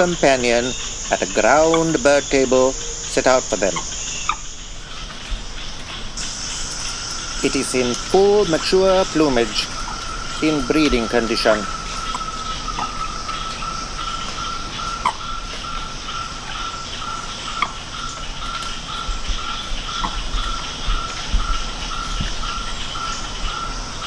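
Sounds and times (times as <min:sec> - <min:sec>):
frogs and insects calling: 0:00.0 - 0:24.0.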